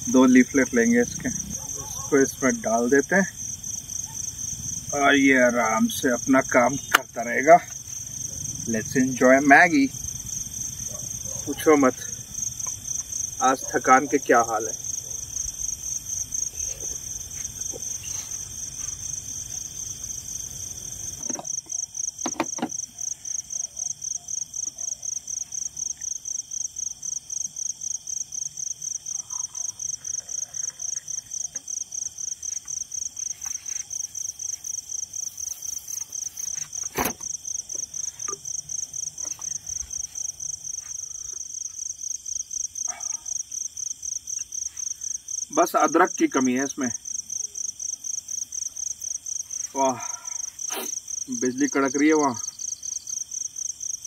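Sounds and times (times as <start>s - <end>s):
insect chirping: 0.0s - 54.0s.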